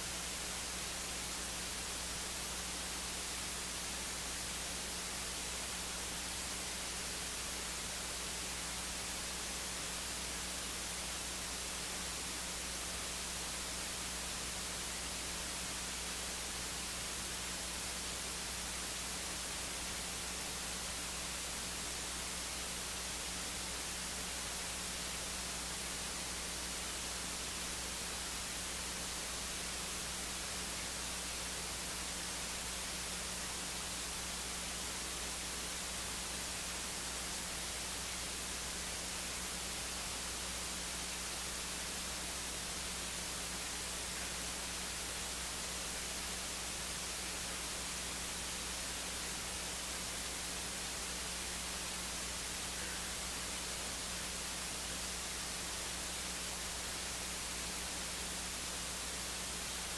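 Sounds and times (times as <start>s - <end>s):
electronic hiss: 0.0s - 59.9s.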